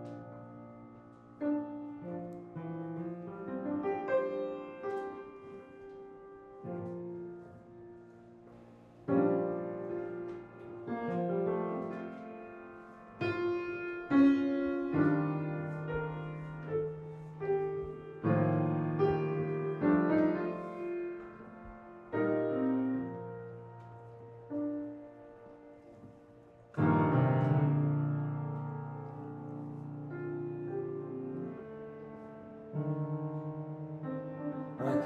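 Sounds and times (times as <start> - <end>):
slow piano chords: 0.0 - 35.0.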